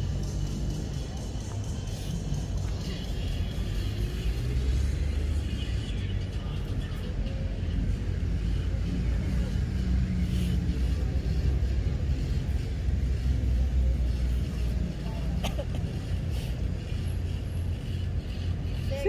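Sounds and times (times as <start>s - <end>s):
engine running with low rumble: 0.0s - 19.0s.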